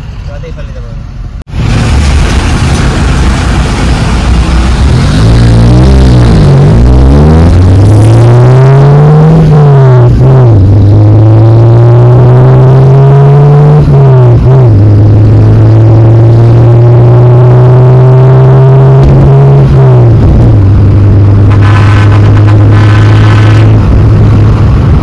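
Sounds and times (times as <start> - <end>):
car engine accelerating through gears: 2.6 - 25.0.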